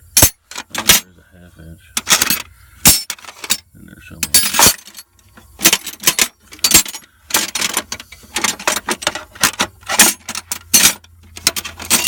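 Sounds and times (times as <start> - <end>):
wrenches clanking in drawer: 0.2 - 1.1, 2.0 - 3.6, 4.2 - 12.0.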